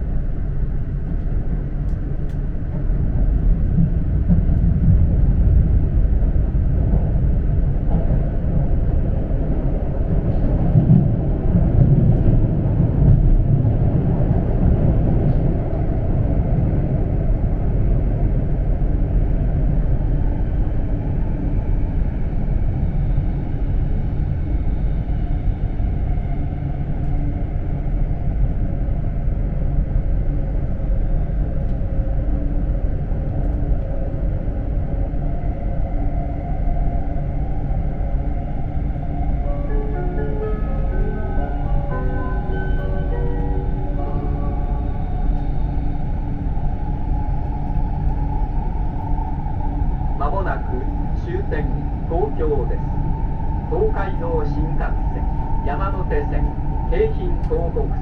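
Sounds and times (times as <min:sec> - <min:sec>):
train low rumble from inside: 0:00.0 - 0:58.0.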